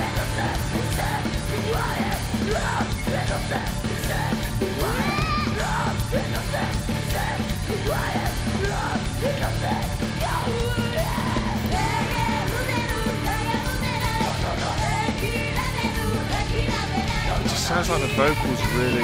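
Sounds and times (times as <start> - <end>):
live metal band: 0.0 - 19.0
women singing and yelling: 0.0 - 19.0.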